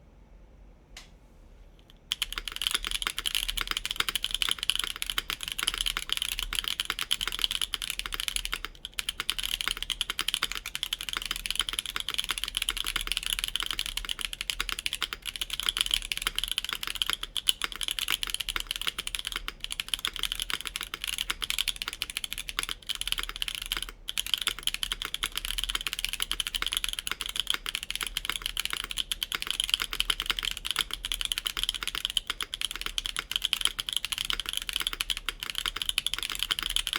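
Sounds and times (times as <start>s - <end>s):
fast typing on mechanical keyboard: 2.1s - 36.9s.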